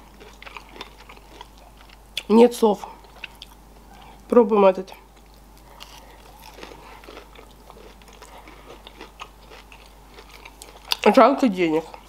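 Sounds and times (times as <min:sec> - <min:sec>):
close chewing with wet mouth clicks: 0:00.0 - 0:02.3, 0:03.0 - 0:04.2, 0:05.2 - 0:12.0.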